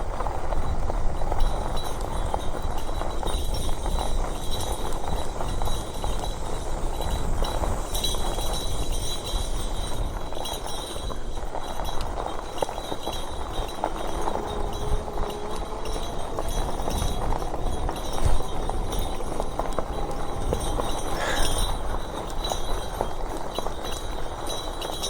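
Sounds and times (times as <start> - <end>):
bike tyres rolling rumble: 0.0 - 25.0
wind buffeting microphone: 0.0 - 25.0.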